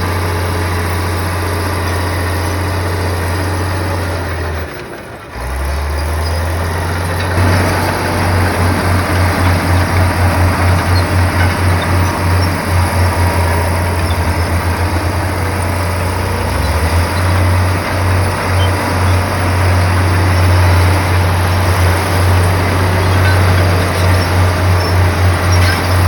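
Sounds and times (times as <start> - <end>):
bulldozer diesel engine throbbing: 0.0 - 26.0.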